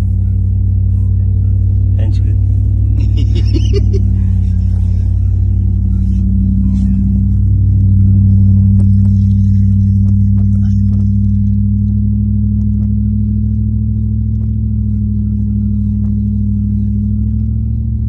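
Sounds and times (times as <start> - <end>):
car engine drone inside cabin: 0.0 - 18.0.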